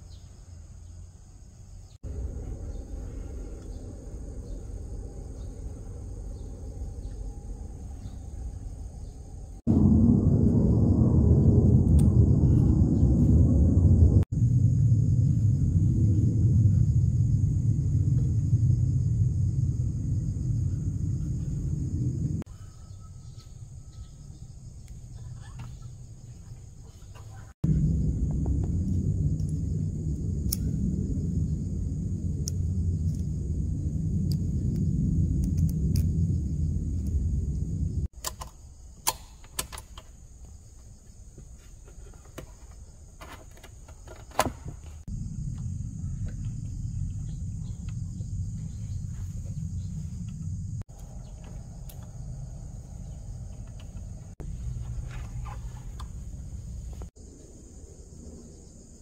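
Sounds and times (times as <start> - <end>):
crickets chirping: 0.0 - 59.0
low rumbling noise: 0.4 - 25.2, 26.0 - 38.2, 44.6 - 58.7.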